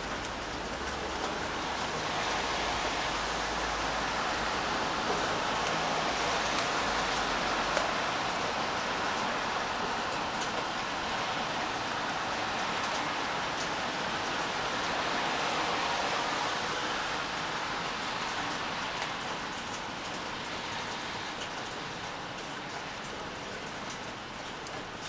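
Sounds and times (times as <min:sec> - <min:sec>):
faint raindrop ticks: 0:00.0 - 0:14.5, 0:17.9 - 0:25.0
steady rain falling: 0:00.0 - 0:25.0.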